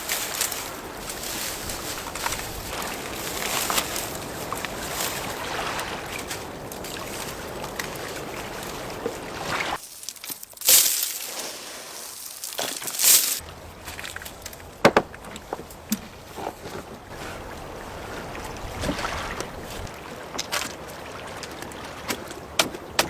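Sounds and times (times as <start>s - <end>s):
water sloshing and trickling: 0.0s - 23.0s.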